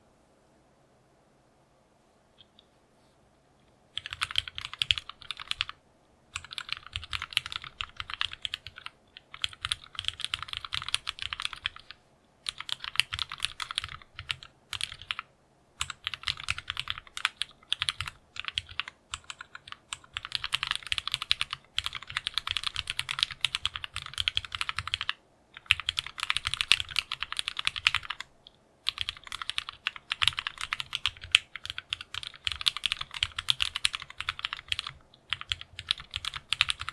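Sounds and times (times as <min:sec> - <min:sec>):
fast typing on mechanical keyboard: 0:04.0 - 0:36.9.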